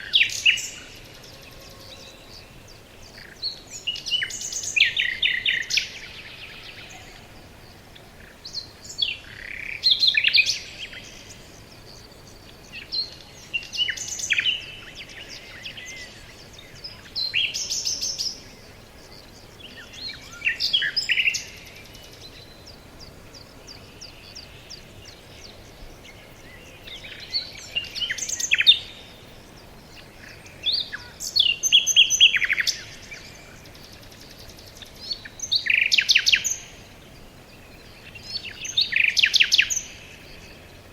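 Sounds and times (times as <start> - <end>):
faint background hiss: 0.0 - 40.9
songbirds chirping and trilling: 0.0 - 40.9.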